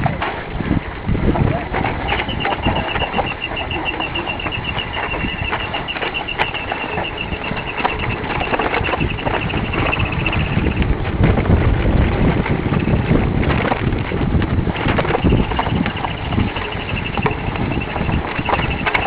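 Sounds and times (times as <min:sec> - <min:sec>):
low rumble: 0:00.0 - 0:18.9
mountain bike rattling: 0:00.0 - 0:19.0
wind buffeting microphone: 0:00.0 - 0:19.0
high pulsing whine: 0:01.3 - 0:13.8, 0:14.6 - 0:19.0.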